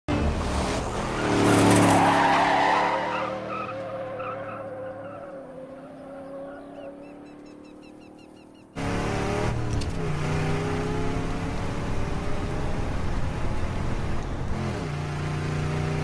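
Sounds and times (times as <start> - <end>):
car engine revving: 0.1 - 16.0.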